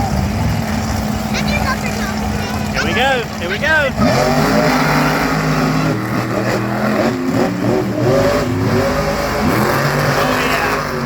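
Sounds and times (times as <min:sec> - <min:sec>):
truck engines revving hard: 0:00.0 - 0:11.0.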